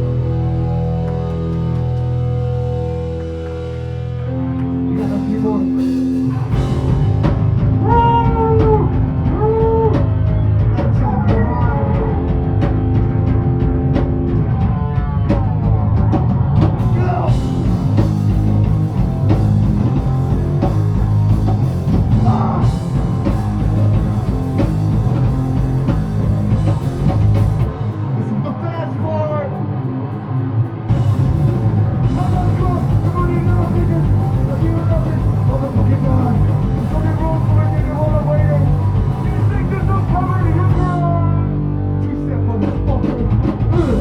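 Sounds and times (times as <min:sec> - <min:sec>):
bending guitar notes: 0:00.0 - 0:10.9, 0:11.6 - 0:42.5
live rock band playing: 0:00.0 - 0:44.0.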